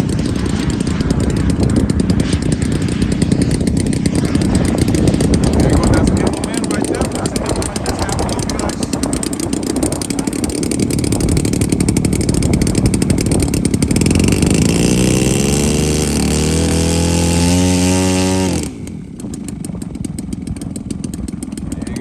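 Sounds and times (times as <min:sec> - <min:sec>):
model aircraft engine revving: 0:00.0 - 0:22.0.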